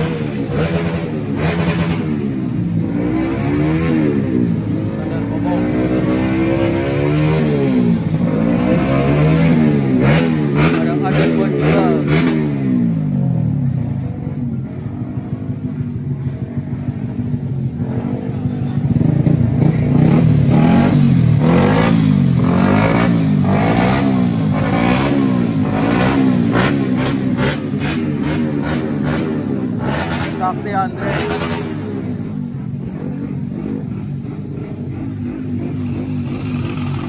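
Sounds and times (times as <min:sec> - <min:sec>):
scooter engine revving: 0:00.0 - 0:37.0.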